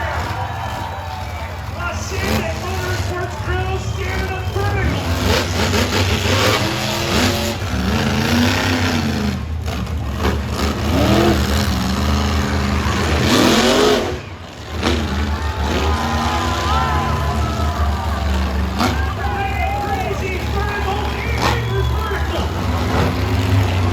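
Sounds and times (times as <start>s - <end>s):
truck engines revving: 0.0s - 23.9s.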